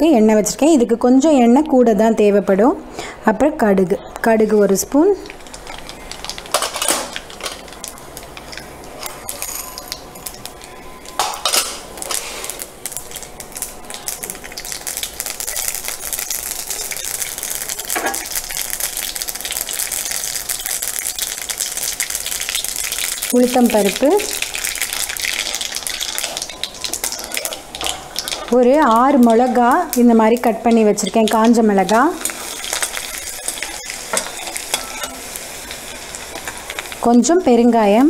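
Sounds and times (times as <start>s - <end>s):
seeds spluttering in hot oil: 4.7s - 38.0s.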